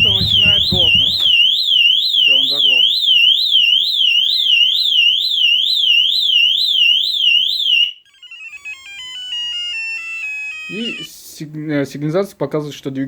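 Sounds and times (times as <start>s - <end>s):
motorcycle alarm siren wailing: 0.0s - 11.1s.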